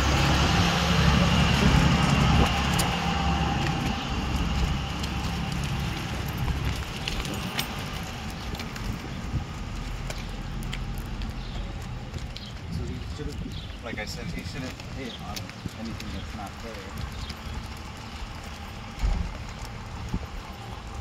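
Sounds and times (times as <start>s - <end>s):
vehicle engine rumbling: 0.0s - 21.0s
leash and harness clinking: 1.4s - 21.0s.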